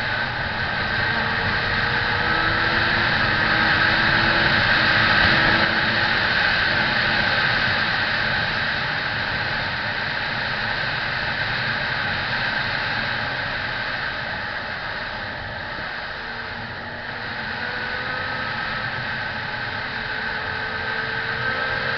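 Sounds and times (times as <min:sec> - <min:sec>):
faint motorcycle engine: 0:00.0 - 0:21.9
wind rushing on motorcycle ride: 0:00.0 - 0:21.9.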